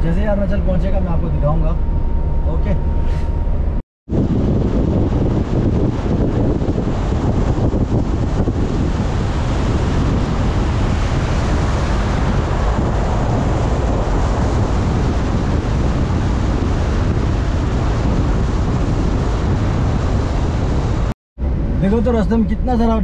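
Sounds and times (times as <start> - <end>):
car road noise: 0.0 - 23.0
wind rushing over microphone: 0.0 - 23.0.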